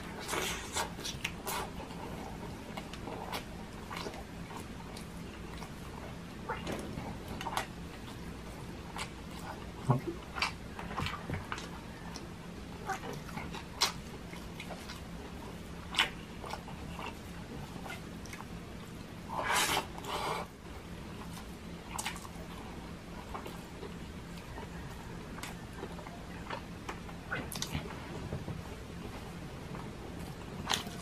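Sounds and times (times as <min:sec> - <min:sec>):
man chewing with lip smacks: 0:00.0 - 0:31.0.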